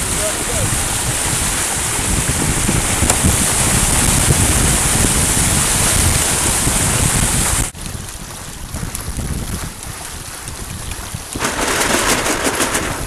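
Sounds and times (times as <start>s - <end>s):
water rushing past hulls: 0.0s - 13.0s
wind buffeting microphone: 0.0s - 13.0s.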